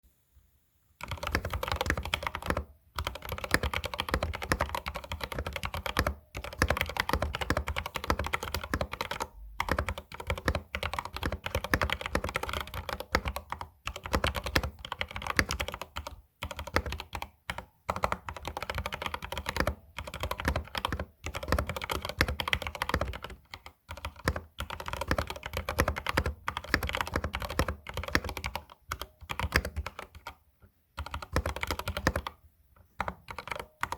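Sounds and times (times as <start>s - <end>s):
mechanical keyboard typing: 1.0s - 30.4s, 31.0s - 32.4s, 33.0s - 33.9s.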